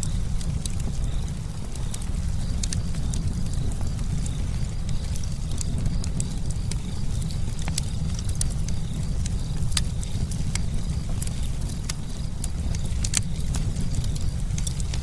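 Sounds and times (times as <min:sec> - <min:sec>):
campfire crackling and popping: 0:00.0 - 0:15.0
fire low rumble: 0:00.0 - 0:15.0.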